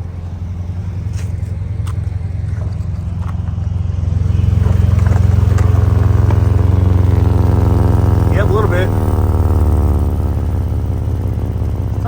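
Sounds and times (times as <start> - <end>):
engine idling rumble: 0.0 - 12.0
exhaust leak: 0.0 - 12.0.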